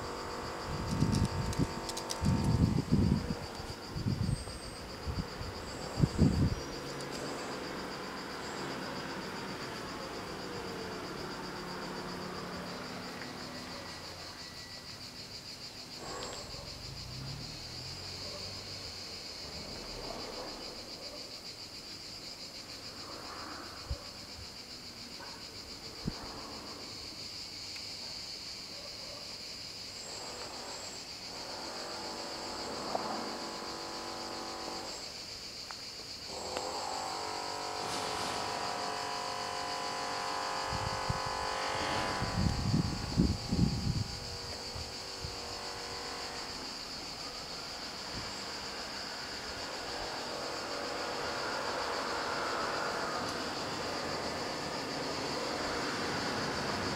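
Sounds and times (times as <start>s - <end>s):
insects shrilling: 0.0s - 27.9s, 29.4s - 56.9s.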